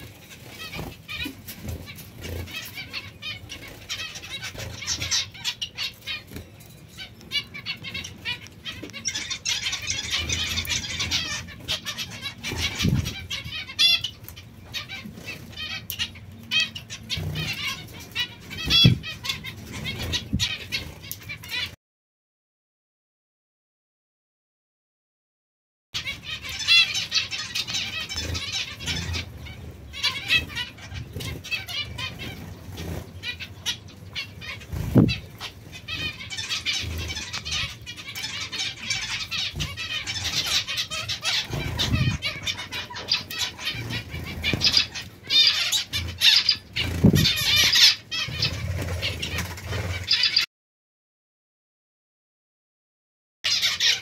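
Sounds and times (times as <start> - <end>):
finches chirping: 0.0 - 21.7, 26.0 - 50.5, 53.5 - 54.0.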